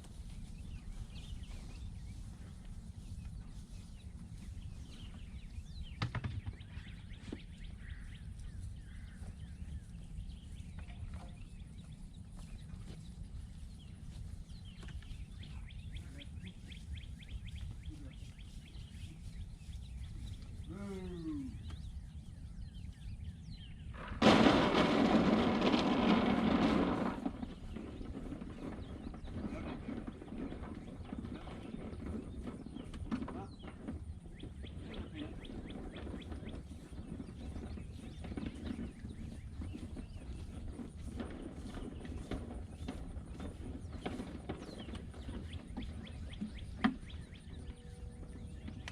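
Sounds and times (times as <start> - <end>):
small birds chirping: 0.0 - 24.2, 27.2 - 48.9.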